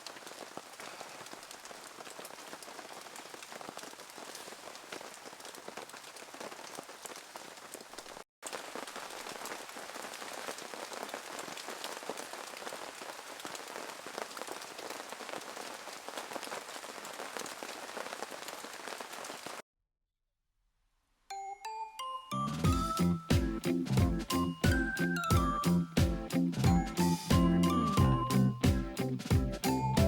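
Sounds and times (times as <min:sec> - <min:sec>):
steady rain falling: 0:00.0 - 0:19.6, 0:22.6 - 0:30.0.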